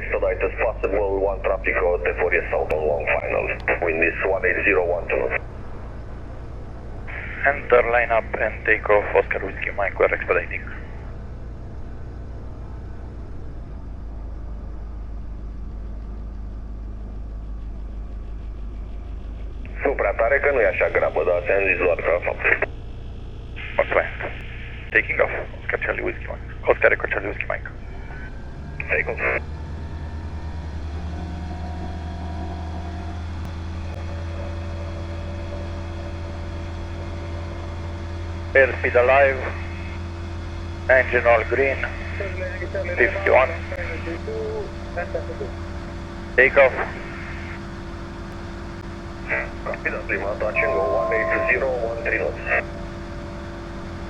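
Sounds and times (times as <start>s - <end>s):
plane piston engine droning: 0.0s - 54.0s.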